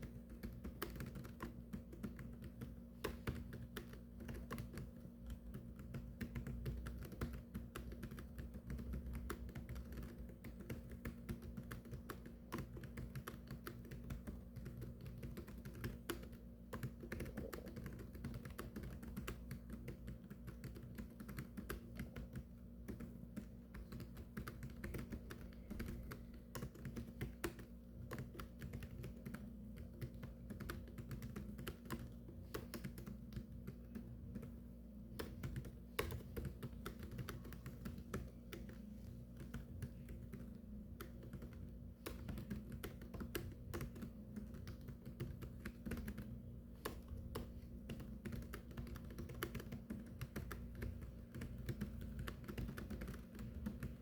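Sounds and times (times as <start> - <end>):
fast typing on keyboard: 0.0 - 54.0
low steady hum: 0.0 - 54.0.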